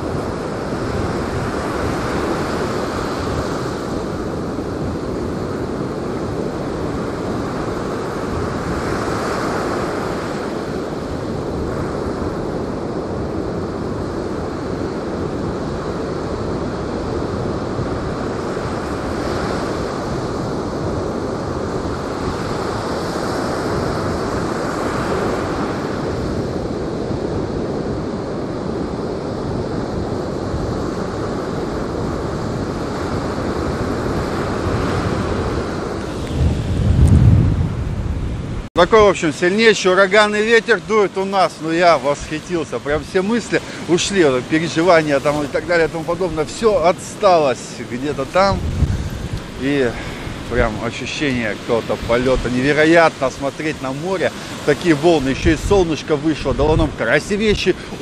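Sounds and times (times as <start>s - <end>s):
storm surf breaking on beach: 0.0s - 58.0s
wind buffeting microphone: 0.0s - 58.0s.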